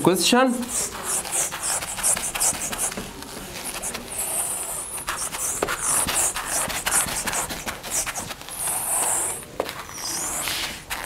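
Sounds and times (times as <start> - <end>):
whiteboard eraser swishing: 0.7 - 11.0.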